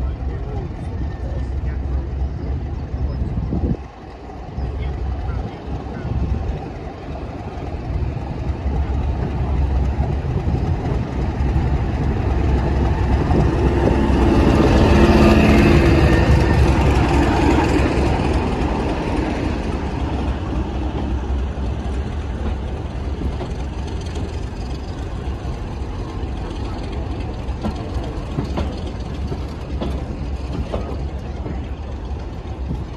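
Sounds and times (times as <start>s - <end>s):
diesel locomotive engine: 0.0s - 32.9s
train wheels rolling on rails: 0.0s - 32.9s.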